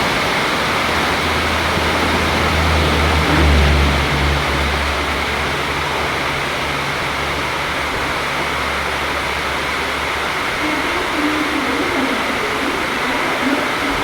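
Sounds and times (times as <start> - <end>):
heavy rain hissing: 0.0 - 14.0
low hum of passing train: 0.0 - 14.0.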